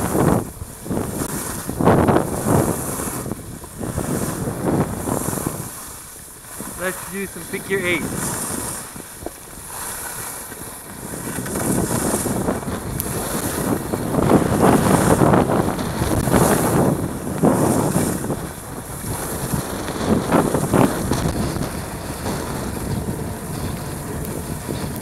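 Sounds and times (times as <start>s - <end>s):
skis sliding on snow: 0.0s - 25.0s
wind rushing over microphone: 0.0s - 25.0s.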